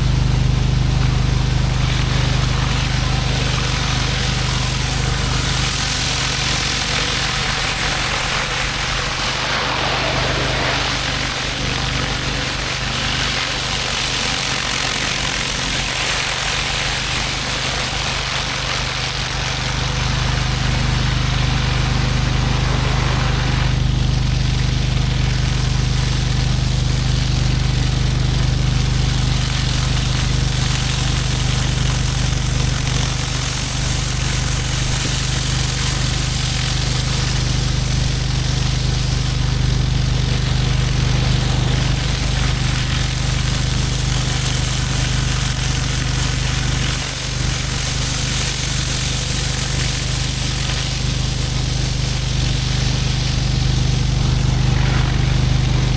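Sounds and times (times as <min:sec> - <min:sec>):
high-pressure water hissing: 0:00.0 - 0:55.9
pressure washer engine running: 0:00.0 - 0:55.9.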